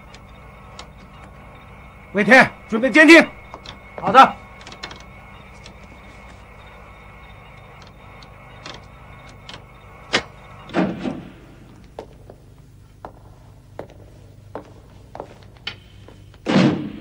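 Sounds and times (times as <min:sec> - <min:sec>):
electronic equipment hum: 0:00.0 - 0:17.0.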